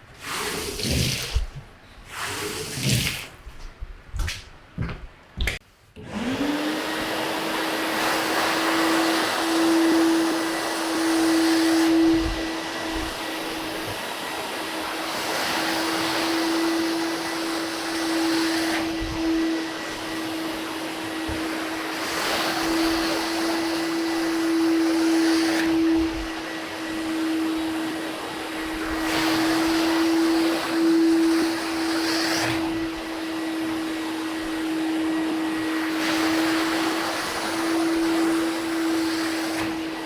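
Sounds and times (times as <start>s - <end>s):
vacuum motor whining: 6.0s - 40.0s.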